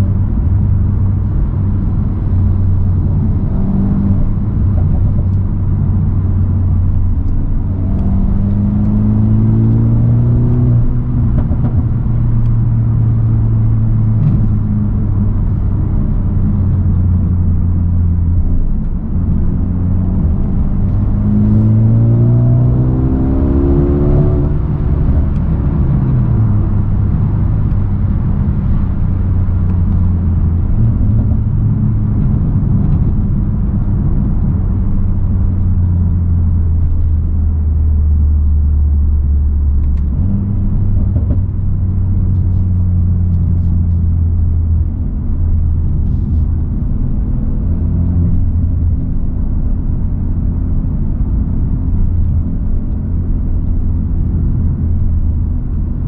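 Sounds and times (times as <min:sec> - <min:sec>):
car engine droning: 0:00.0 - 0:56.0
tyre and road noise: 0:00.0 - 0:56.0.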